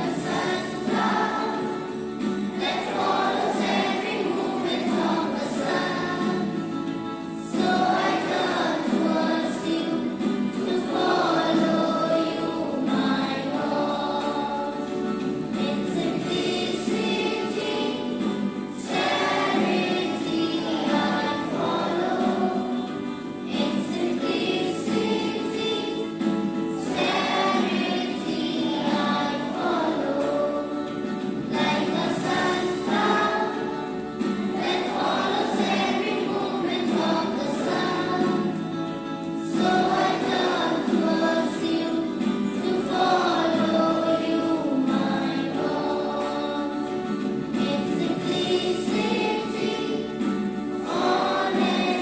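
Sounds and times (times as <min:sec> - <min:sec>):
students singing in chorus: 0:00.0 - 0:52.0.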